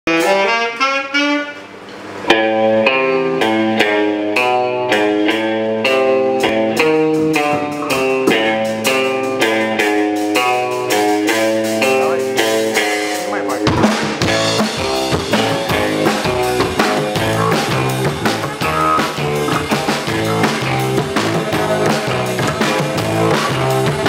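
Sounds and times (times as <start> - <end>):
live instrumental band playing: 0.1 - 24.0.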